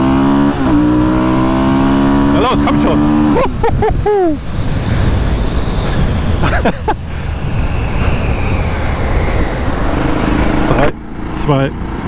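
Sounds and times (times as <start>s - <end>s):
motorcycle engine accelerating: 0.0s - 12.0s
wind rush on microphone: 0.6s - 11.3s.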